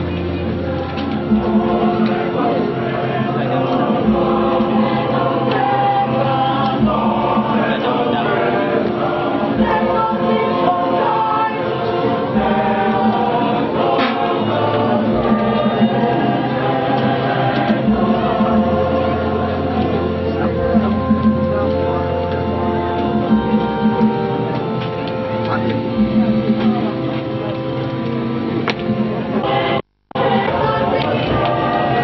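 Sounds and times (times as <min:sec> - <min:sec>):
choir singing: 0:00.0 - 0:24.8, 0:28.4 - 0:32.0
low bass accompaniment: 0:00.0 - 0:32.0.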